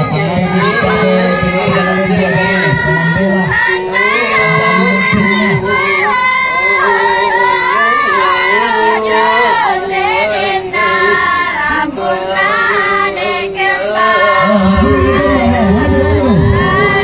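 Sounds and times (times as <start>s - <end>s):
girls singing together: 0.0s - 17.0s.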